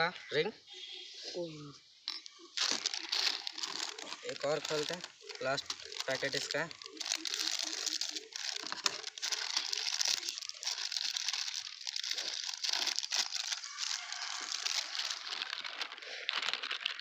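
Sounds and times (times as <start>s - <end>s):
snack packet crinkling: 2.5s - 17.0s.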